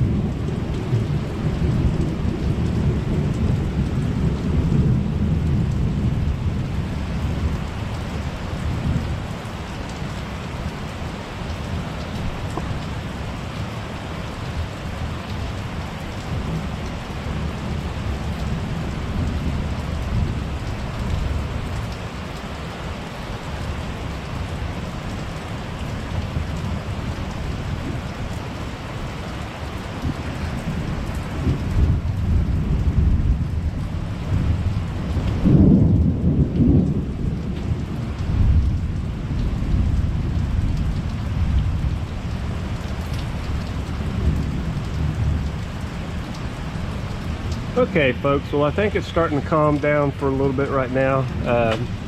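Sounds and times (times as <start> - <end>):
thunder rumbling: 0.0 - 10.4, 11.5 - 21.9, 29.9 - 52.0
rain hissing: 0.0 - 52.0.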